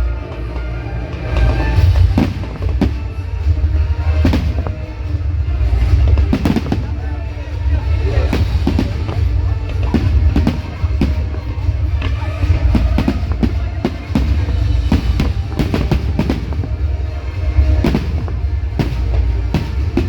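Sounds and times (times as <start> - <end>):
music playing: 0.0 - 20.0
fireworks bangs and crackles: 0.1 - 20.0
heavy low rumble: 1.0 - 20.0.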